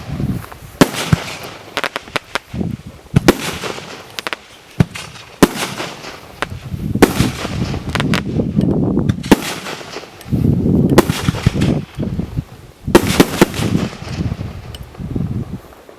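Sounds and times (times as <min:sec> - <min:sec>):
firework bangs: 0:00.0 - 0:15.9.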